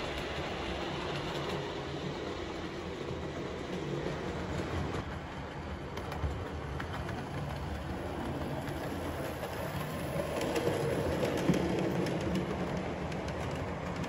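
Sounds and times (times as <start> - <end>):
model train wheels rumbling: 0.0 - 14.0.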